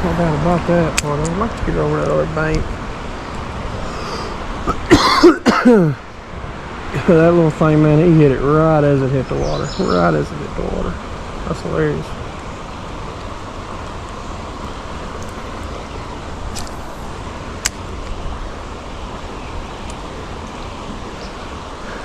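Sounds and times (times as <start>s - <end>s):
creek water flowing: 0.0s - 22.0s.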